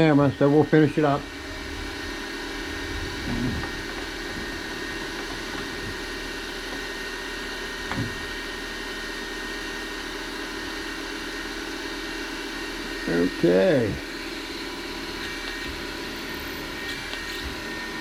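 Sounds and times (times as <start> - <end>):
milling machine drilling metal: 0.0 - 18.0.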